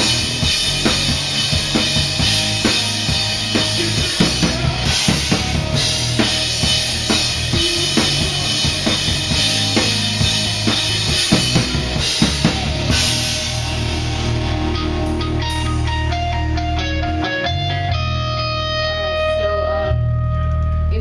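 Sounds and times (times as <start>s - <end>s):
rock drum kit groove: 0.0s - 20.5s
steady backing music: 0.0s - 21.0s.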